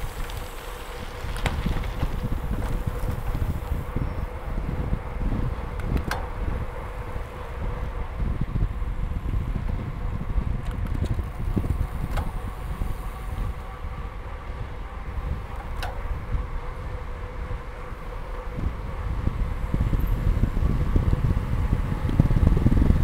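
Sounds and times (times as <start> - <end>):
bicycle rolling noise: 0.0 - 23.0
wind buffeting microphone: 0.0 - 23.0.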